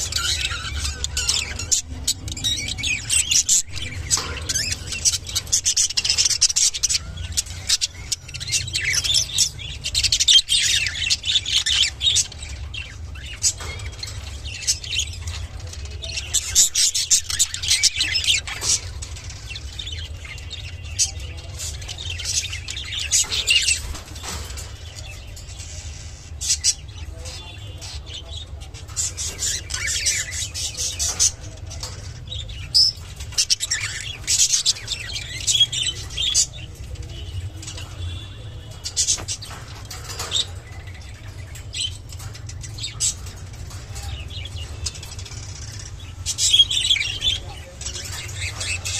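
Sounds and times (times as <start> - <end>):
budgerigars chirping: 0.0 - 48.9.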